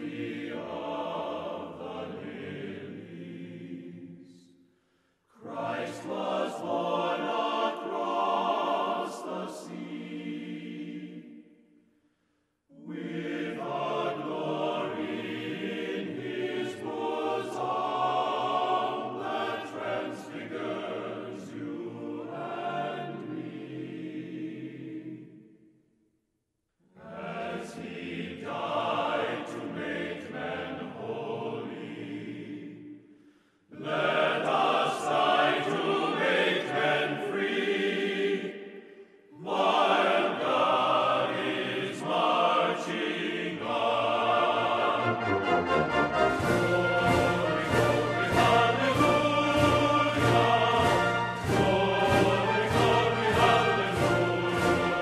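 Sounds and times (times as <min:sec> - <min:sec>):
choir singing: 0:00.0 - 0:04.6, 0:05.3 - 0:11.8, 0:12.7 - 0:25.7, 0:26.9 - 0:55.0.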